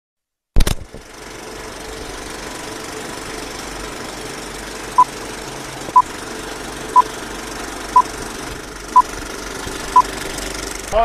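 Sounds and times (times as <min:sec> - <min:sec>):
film projector whirring clatter: 0:00.6 - 0:11.0.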